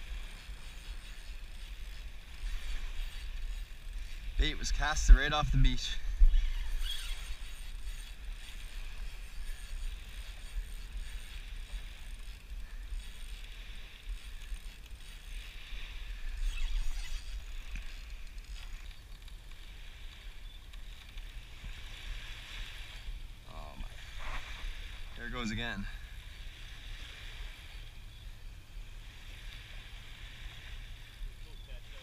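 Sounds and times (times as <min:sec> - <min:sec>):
small waves lapping: 0:00.0 - 0:32.0.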